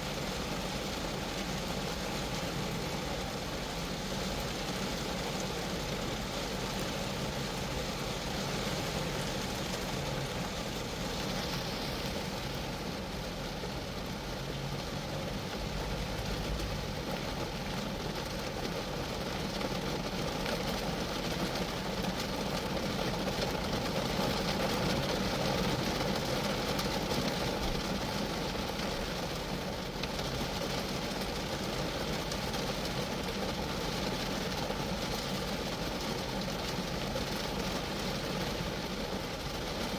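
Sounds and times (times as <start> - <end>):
rain on car metal and glass: 0.0 - 39.9.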